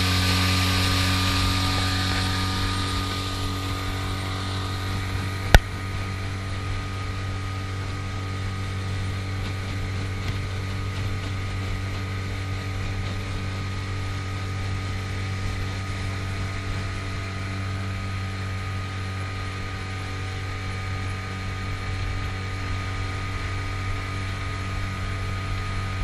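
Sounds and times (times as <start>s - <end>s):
outboard motor humming: 0.0s - 26.0s.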